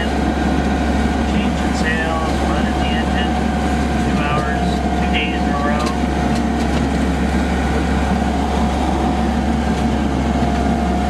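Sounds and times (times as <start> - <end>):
boat engine droning: 0.0 - 11.0
thin whine: 0.0 - 11.0.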